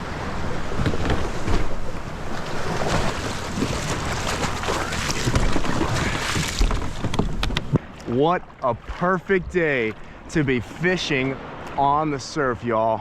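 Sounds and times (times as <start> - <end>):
ocean waves and surf: 0.0 - 13.0.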